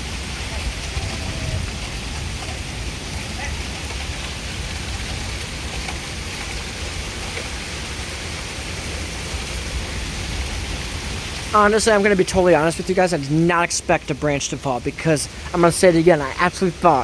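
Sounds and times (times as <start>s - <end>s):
heavy rain falling: 0.0s - 17.0s
low rumble of wind: 0.0s - 17.0s.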